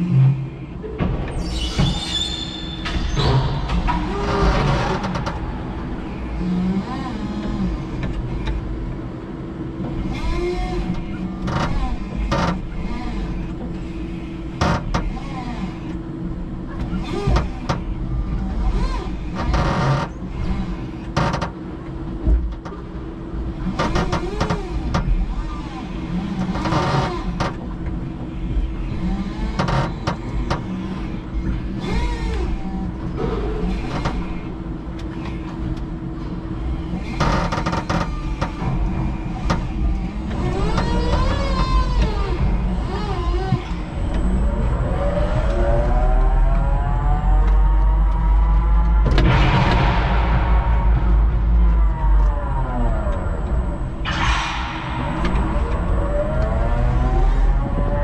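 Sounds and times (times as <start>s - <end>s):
steady hum and low rumble: 0.0s - 58.0s.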